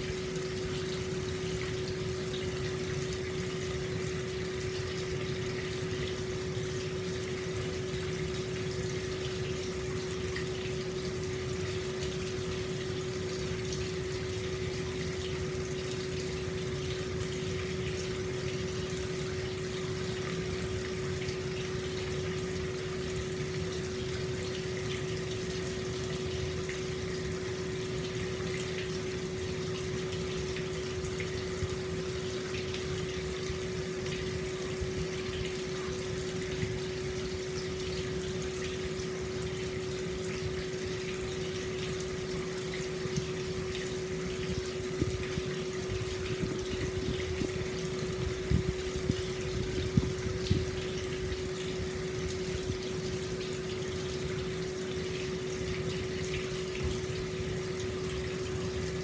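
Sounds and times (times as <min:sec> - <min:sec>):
steady hum: 0:00.0 - 0:59.0
water splashing into a bath: 0:00.0 - 0:59.0.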